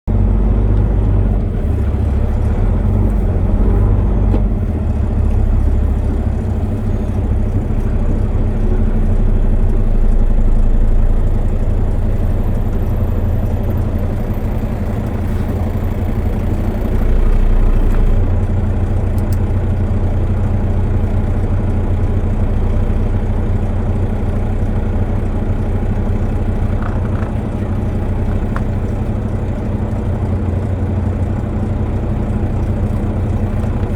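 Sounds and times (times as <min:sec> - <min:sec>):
large engine humming: 0:00.1 - 0:33.9.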